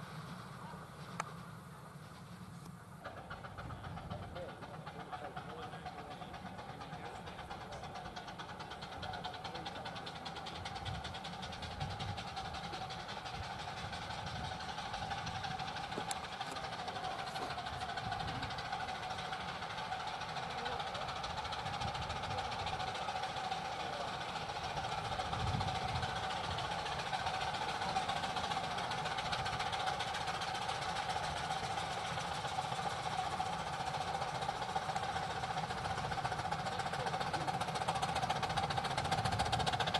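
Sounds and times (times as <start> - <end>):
miniature steam locomotive running: 0.0 - 39.9.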